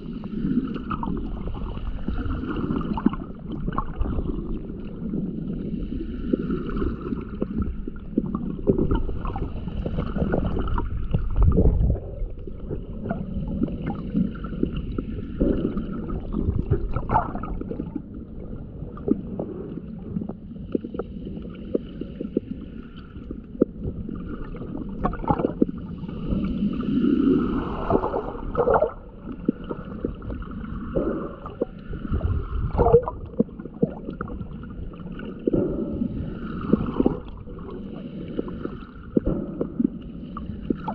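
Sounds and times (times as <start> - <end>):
underwater sloshing and gurgling: 0.0 - 40.9.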